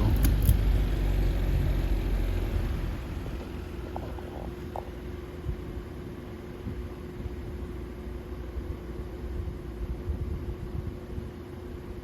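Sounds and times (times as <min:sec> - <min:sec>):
fan motor hum: 0:00.0 - 0:12.0.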